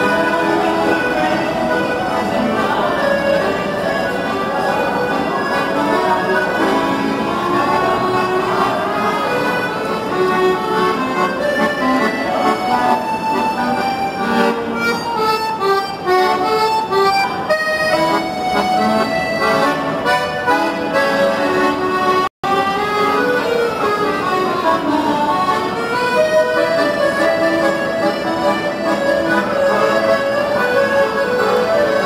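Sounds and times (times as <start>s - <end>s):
piano accordion melody: 0.0s - 32.0s.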